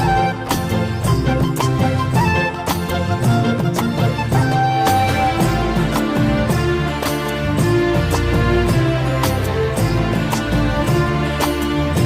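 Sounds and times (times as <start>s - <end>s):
film music with steady beat: 0.0s - 12.0s.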